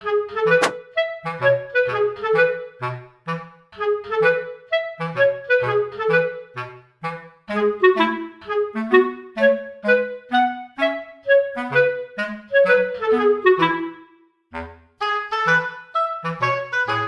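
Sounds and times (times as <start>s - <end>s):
bouncy background music: 0.0s - 17.0s.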